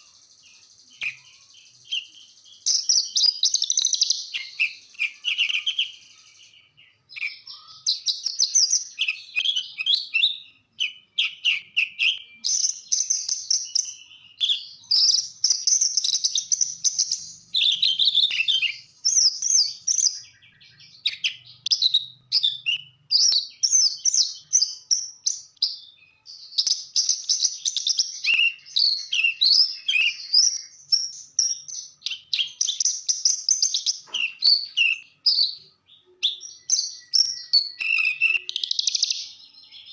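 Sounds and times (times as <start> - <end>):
lark singing chirps and trills: 0.0 - 39.9.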